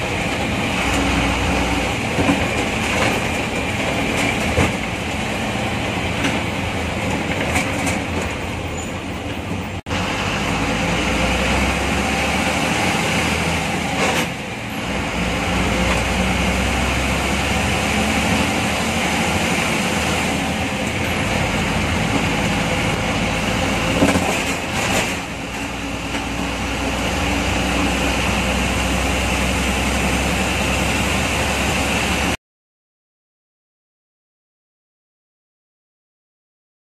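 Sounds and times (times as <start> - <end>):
bus body rattling: 0.0 - 9.8, 11.4 - 32.4
bus engine drone: 0.0 - 32.4
road noise: 0.0 - 32.4.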